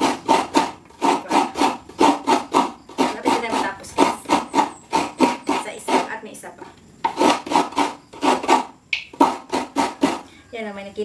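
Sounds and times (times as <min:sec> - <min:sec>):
coconut grating rasps: 0:00.0 - 0:10.3.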